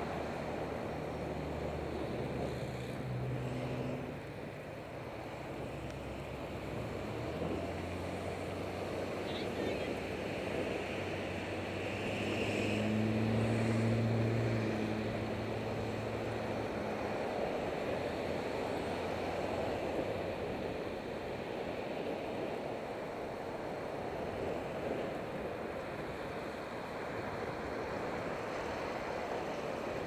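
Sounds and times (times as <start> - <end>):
road traffic: 0.0 - 30.0
vehicle engine hum: 0.0 - 30.0.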